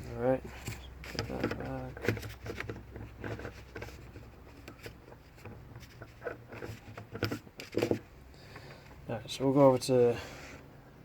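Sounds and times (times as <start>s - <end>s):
faint handling of metal parts: 0.0s - 10.7s.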